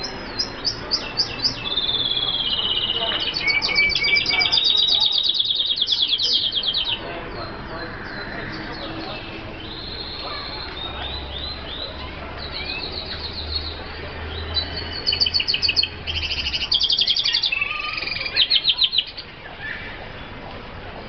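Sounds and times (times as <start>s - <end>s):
finches singing: 0.0s - 20.4s.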